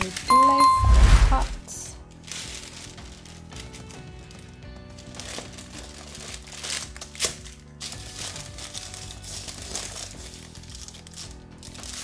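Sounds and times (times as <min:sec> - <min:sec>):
baking paper crinkling: 0:00.0 - 0:00.6, 0:02.0 - 0:12.0
background music: 0:00.0 - 0:12.0.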